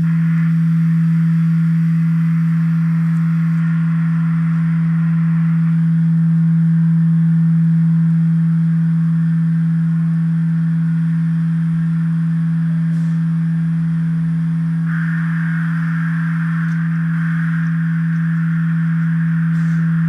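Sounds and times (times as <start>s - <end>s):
electronic low drone: 0.0s - 20.0s.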